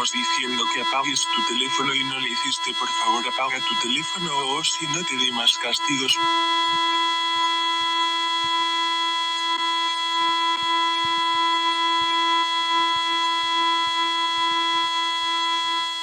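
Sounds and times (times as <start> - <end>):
harsh electronic alarm tone: 0.0 - 16.0.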